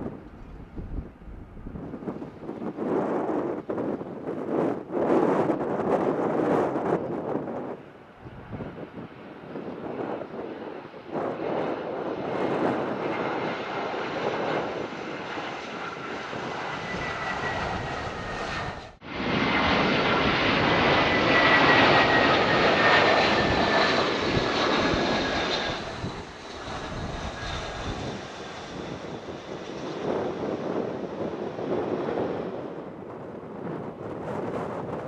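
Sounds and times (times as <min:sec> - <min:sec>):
jet engines rushing with whine: 0:00.0 - 0:35.0.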